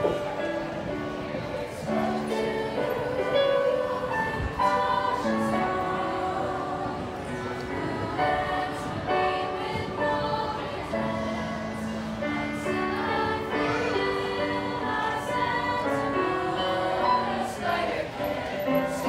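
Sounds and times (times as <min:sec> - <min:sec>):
choir singing in harmony: 0:00.0 - 0:19.0.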